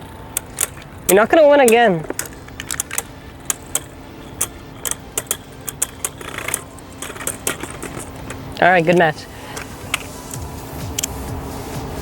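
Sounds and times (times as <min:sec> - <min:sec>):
spinning tops clacking: 0:00.0 - 0:11.3.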